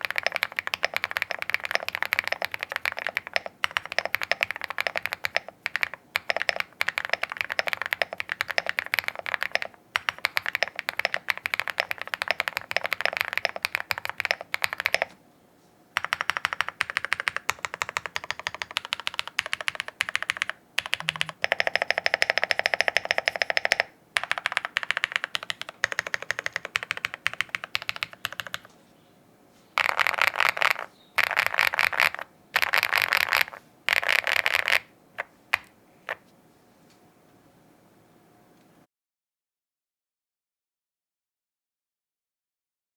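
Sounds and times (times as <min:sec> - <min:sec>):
mechanical keyboard typing: 0:00.0 - 0:15.2, 0:16.0 - 0:28.7, 0:29.8 - 0:36.2.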